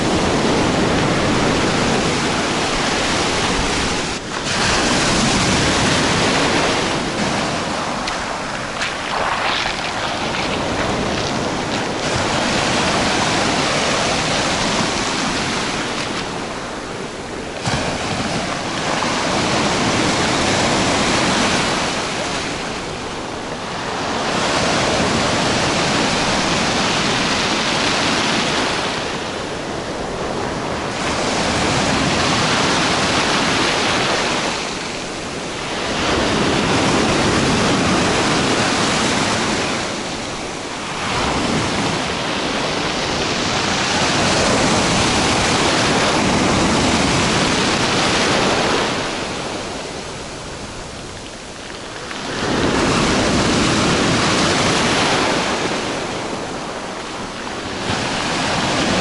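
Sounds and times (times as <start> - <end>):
waves breaking on pebble beach: 0.0 - 59.0.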